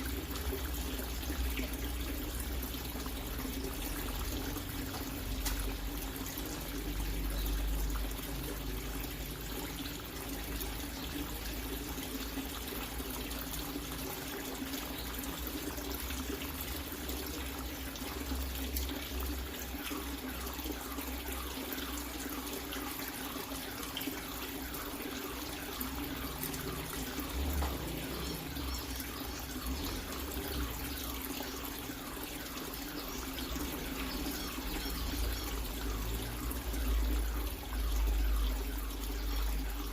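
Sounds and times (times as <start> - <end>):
water running into tank: 0.0 - 39.9.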